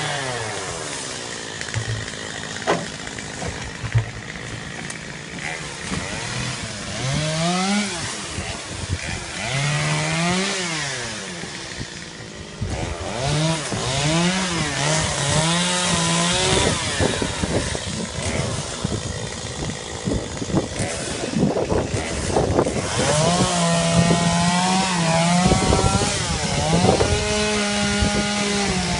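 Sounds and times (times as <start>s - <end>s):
chainsaw engine revving: 0.0s - 28.9s.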